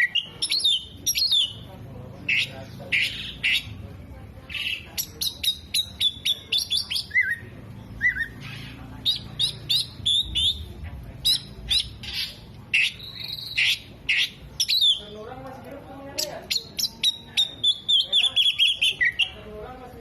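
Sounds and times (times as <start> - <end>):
songbird singing varied song: 0.0 - 3.8, 4.5 - 15.2, 16.2 - 19.5.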